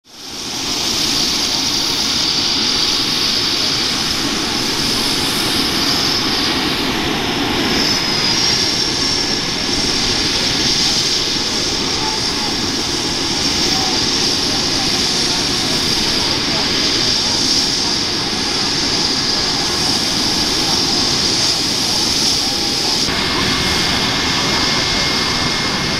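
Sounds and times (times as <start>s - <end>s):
helicopter turbine whine: 0.1s - 25.9s
rushing noise: 0.2s - 25.9s.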